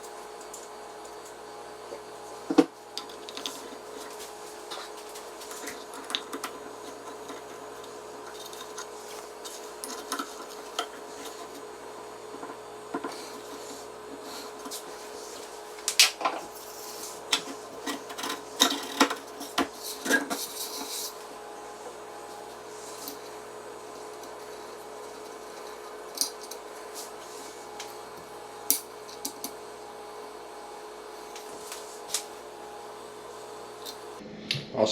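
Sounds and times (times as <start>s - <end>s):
faint hum: 0.0s - 34.9s.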